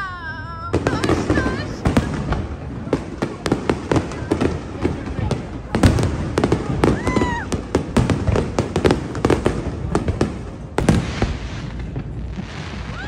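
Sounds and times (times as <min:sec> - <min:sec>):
fireworks bangs: 0:00.0 - 0:13.0
fireworks crackling hiss: 0:00.7 - 0:13.0.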